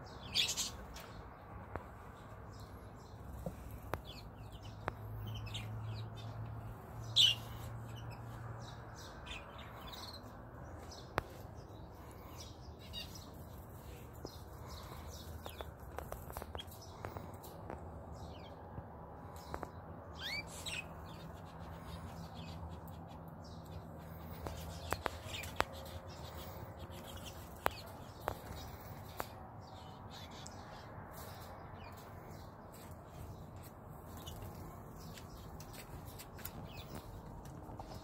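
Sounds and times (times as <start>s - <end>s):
canaries chirping: 0.0s - 38.0s.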